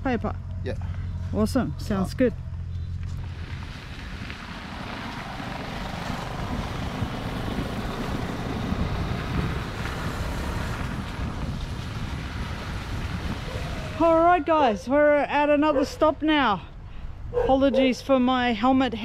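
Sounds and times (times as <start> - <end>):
wind buffeting microphone: 2.2 - 19.0.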